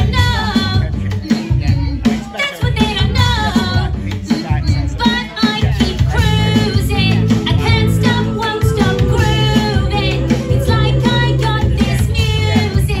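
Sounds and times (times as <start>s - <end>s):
children's dance song over speakers: 0.0s - 13.0s.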